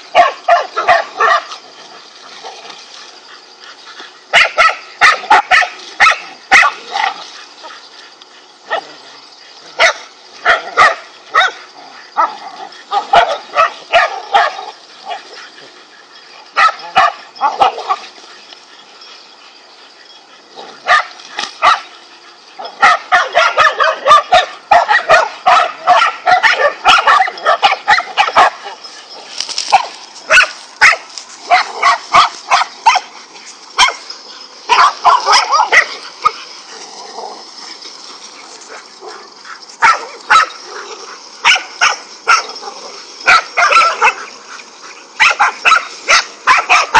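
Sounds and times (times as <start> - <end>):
dogs barking: 0.0 - 46.9.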